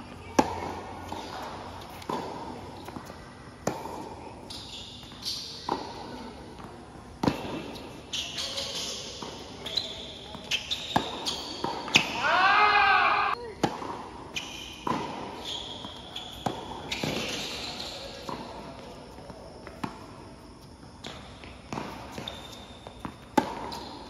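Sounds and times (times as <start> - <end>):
tennis shoes squeaking on court: 0.0 - 13.0, 13.6 - 24.0
tennis ball bounces: 0.1 - 8.0, 10.3 - 12.3, 13.6 - 17.4, 18.2 - 24.0.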